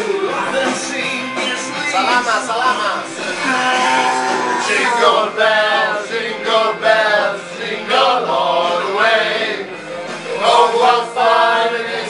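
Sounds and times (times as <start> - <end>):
group of men singing: 0.0 - 12.0.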